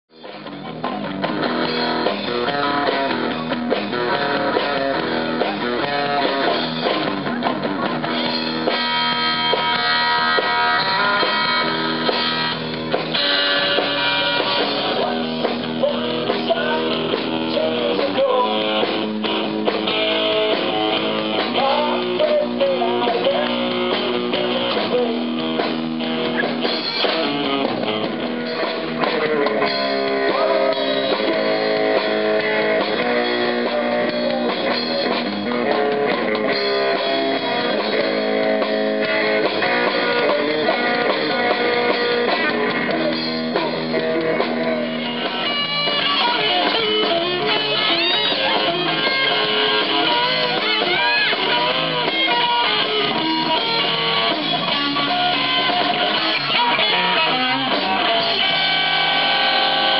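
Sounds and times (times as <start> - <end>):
rock band playing: 0.1 - 59.9.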